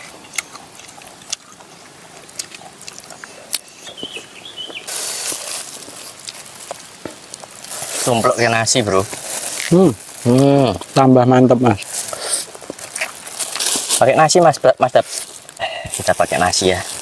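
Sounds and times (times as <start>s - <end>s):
people chewing: 0.0s - 17.0s
steady hiss: 0.0s - 17.0s.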